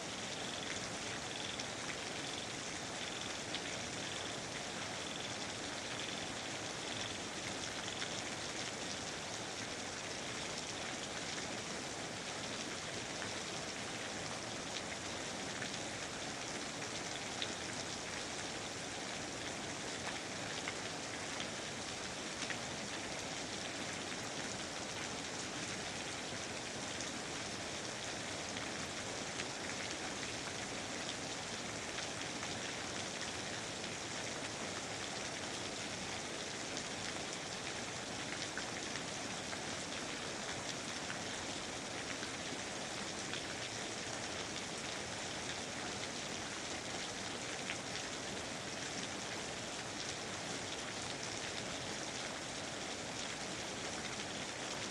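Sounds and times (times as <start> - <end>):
rain pattering on surfaces: 0.0 - 54.9.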